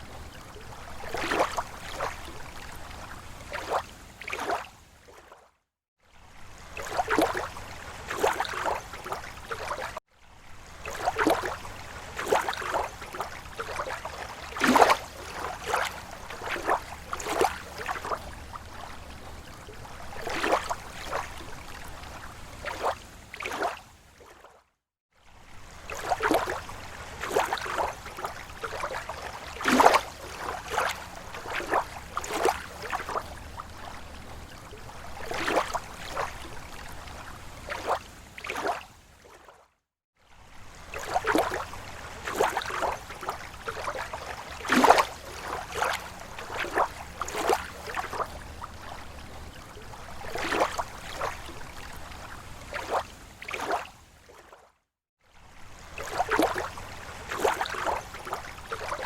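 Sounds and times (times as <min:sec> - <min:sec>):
waves lapping against shore: 0:00.0 - 0:59.0.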